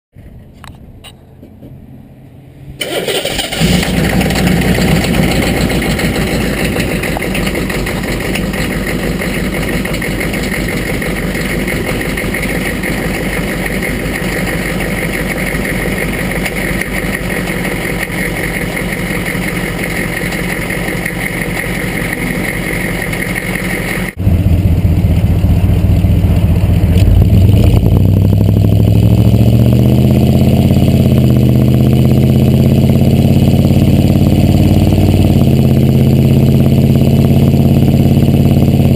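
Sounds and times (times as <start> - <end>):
diesel engine clattering: 2.8 - 38.9.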